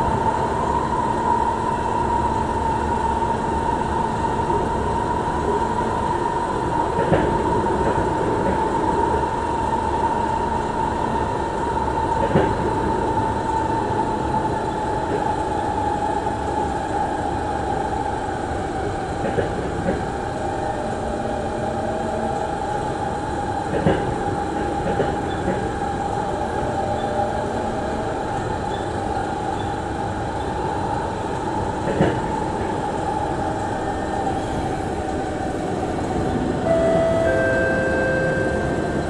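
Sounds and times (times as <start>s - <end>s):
train rolling rumble and hum: 0.0s - 39.0s.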